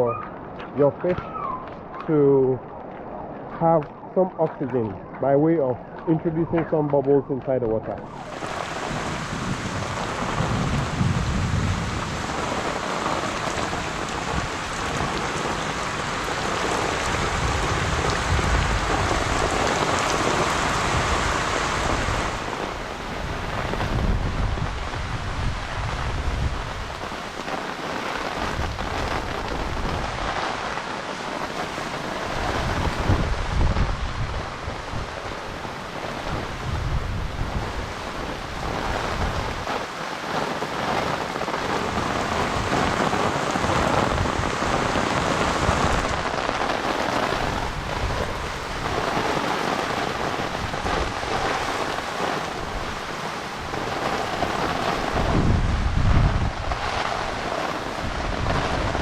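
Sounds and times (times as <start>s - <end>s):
heavy rain on pond water: 5.8s - 59.0s.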